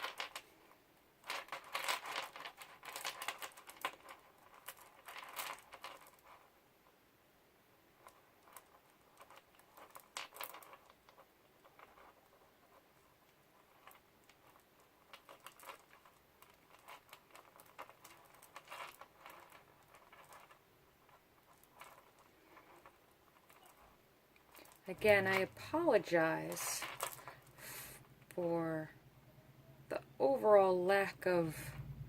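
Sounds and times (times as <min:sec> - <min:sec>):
beads clicking and rustling: 0:00.0 - 0:07.0, 0:07.8 - 0:29.0.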